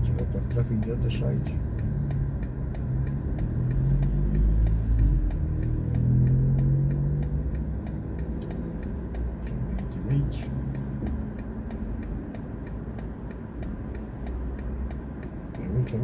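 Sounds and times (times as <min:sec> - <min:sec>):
electric car drive hum: 0:00.0 - 0:16.0
steady light ticking: 0:00.0 - 0:16.0.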